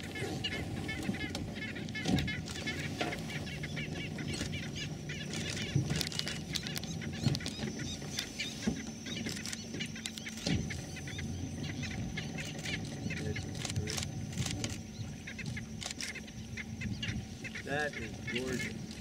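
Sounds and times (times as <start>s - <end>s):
birds chirping: 0.0s - 19.0s
low steady rumble: 0.0s - 19.0s.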